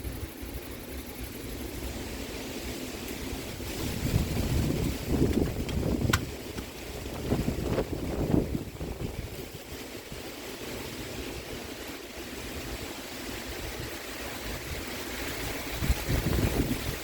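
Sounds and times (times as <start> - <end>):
wind gusting on microphone: 0.0 - 17.0
rain hissing: 1.5 - 17.0.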